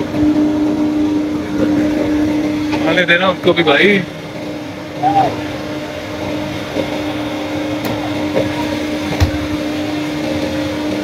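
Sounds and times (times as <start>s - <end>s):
chairlift machinery humming: 0.0s - 11.0s.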